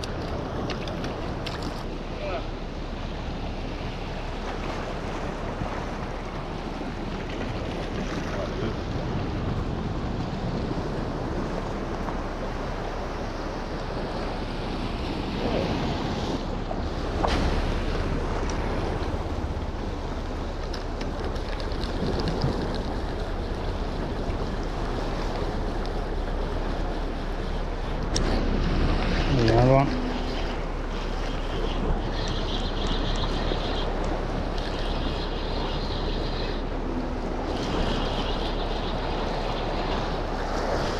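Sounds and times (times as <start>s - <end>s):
ocean surf on rocks: 0.0s - 40.9s
wind rumbling on microphone: 0.0s - 40.9s.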